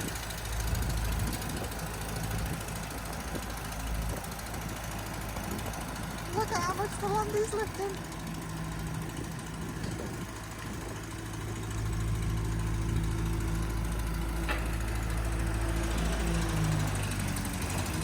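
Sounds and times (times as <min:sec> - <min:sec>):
tractor engine rumbling: 0:00.0 - 0:18.0.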